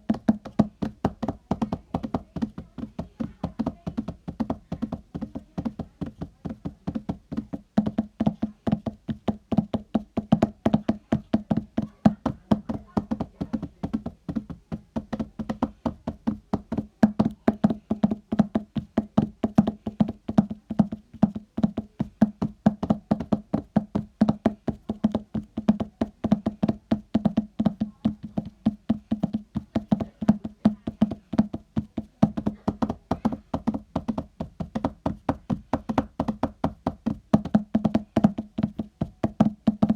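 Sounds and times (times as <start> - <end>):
hollow knocks imitating hooves: 0.0 - 39.9.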